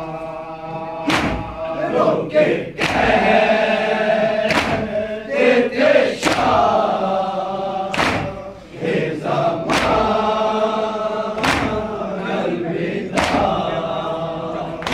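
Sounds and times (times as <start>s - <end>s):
men chanting together: 0.0s - 14.9s
unison chest-beats: 1.0s - 12.3s, 13.1s - 13.9s, 14.7s - 14.9s.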